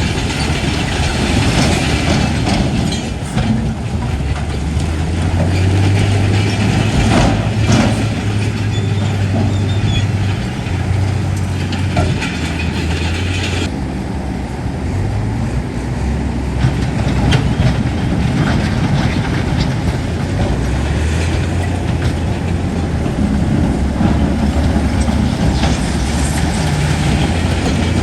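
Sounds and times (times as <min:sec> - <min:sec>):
metallic clanks of crawler tracks: 0:00.0 - 0:13.8, 0:16.5 - 0:28.0
diesel engine running: 0:00.0 - 0:28.0.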